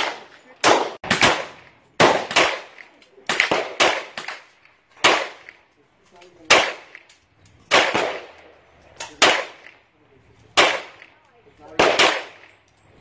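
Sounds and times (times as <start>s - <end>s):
pistol shots cracking: 0.0s - 5.6s, 6.4s - 9.8s, 10.5s - 12.6s.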